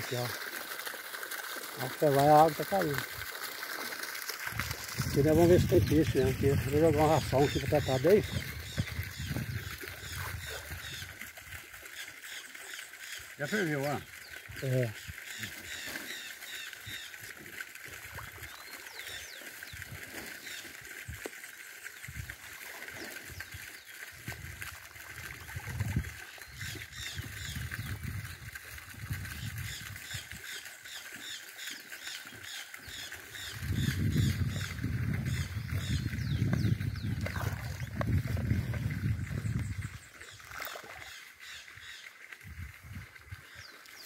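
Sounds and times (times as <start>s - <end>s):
fish splashing at water surface: 0.0s - 35.9s, 36.6s - 39.0s, 40.1s - 42.4s.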